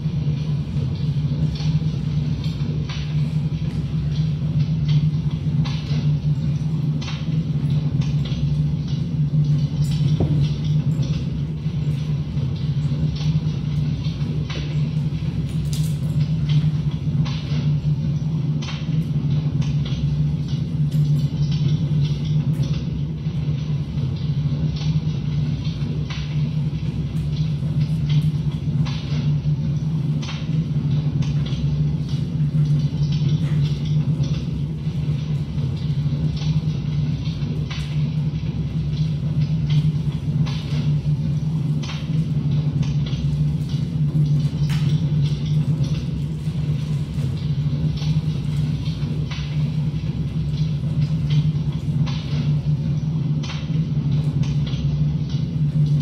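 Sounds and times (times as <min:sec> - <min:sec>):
loud low hum: 0:00.0 - 0:56.0
loud low rumbling drone: 0:00.0 - 0:56.0.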